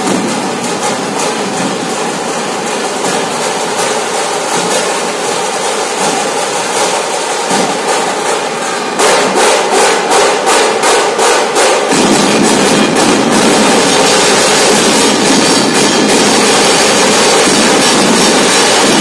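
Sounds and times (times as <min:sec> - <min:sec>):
barrel drums beaten with sticks: 0:00.0 - 0:19.0.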